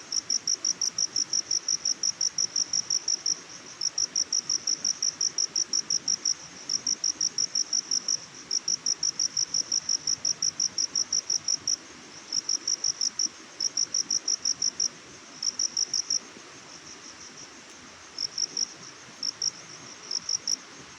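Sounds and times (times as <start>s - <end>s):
cricket chirping: 0.0s - 20.9s
forest ambience hiss: 0.0s - 20.9s.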